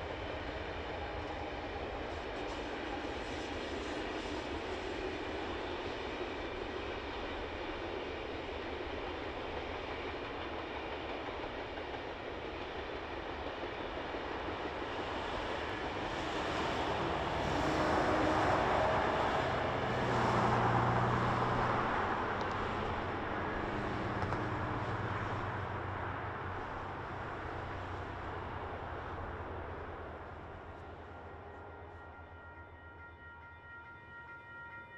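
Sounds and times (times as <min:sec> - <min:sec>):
train wheels on rails: 0:00.0 - 0:32.0
diesel locomotive engines humming: 0:00.0 - 0:34.9.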